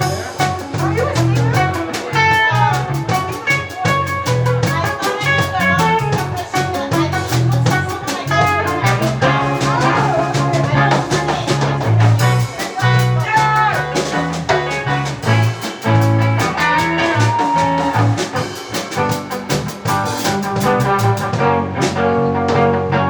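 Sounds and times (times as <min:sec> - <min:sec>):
bass line: 0:00.0 - 0:23.0
drum kit beat: 0:00.0 - 0:23.0
guitar lead melody: 0:00.0 - 0:23.0.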